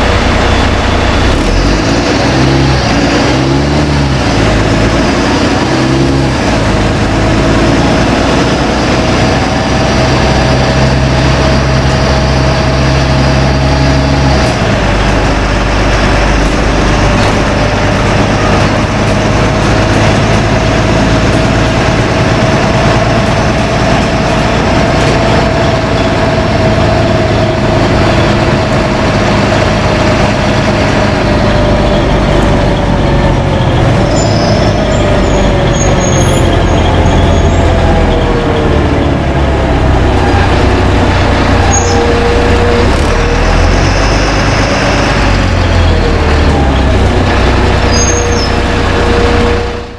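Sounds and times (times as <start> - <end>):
bus engine drone with whine: 0.0 - 49.9.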